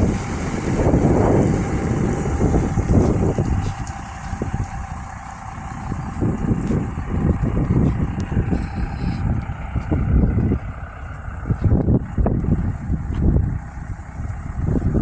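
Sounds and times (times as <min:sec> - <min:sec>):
motor vehicle running: 0:00.0 - 0:15.0
wind buffeting microphone: 0:00.0 - 0:15.0.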